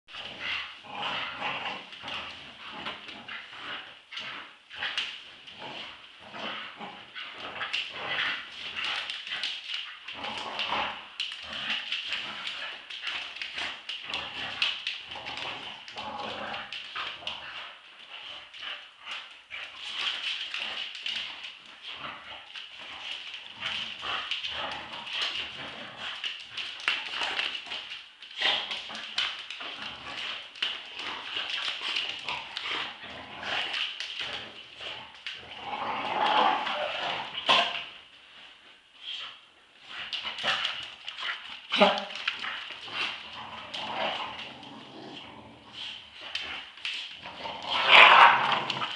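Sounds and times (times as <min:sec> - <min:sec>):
claws clicking on hard floor: 0:00.1 - 0:38.0, 0:39.0 - 0:48.9
dogs growling: 0:00.1 - 0:38.0, 0:39.8 - 0:48.9.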